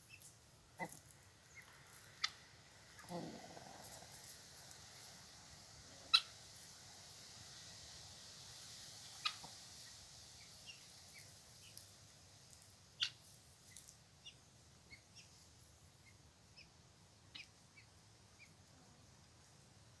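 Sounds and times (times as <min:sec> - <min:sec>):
birds chirping faintly: 0:00.0 - 0:19.4.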